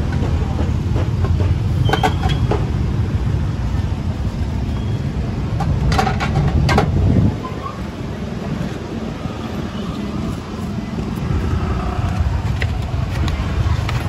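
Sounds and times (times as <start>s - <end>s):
motorbike and street traffic rumble: 0.0s - 14.0s.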